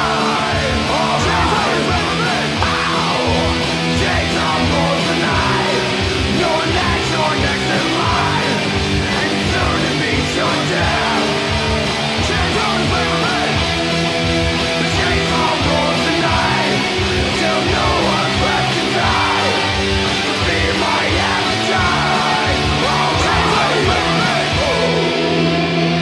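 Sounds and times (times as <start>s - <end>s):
distorted electric guitars and bass: 0.0s - 26.0s.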